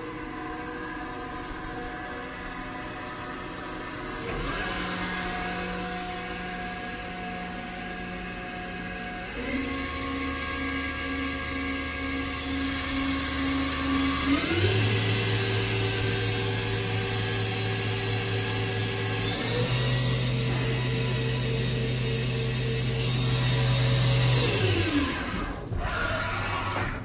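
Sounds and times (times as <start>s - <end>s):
machine spindle whining: 0.0s - 27.0s.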